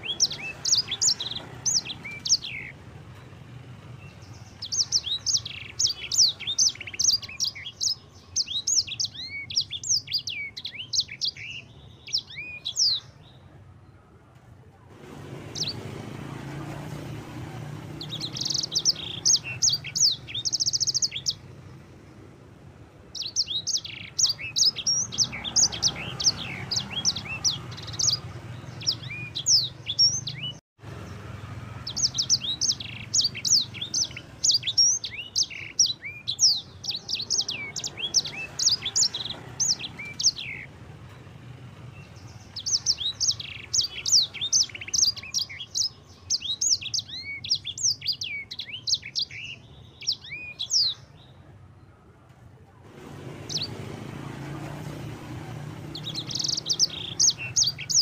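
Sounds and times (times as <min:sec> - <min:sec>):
finch singing high chirps and trills: 0:00.0 - 0:02.8, 0:03.9 - 0:13.5, 0:15.4 - 0:16.1, 0:17.8 - 0:21.6, 0:23.1 - 0:30.6, 0:31.5 - 0:41.2, 0:41.9 - 0:51.4, 0:53.2 - 0:54.2, 0:54.8 - 0:58.0.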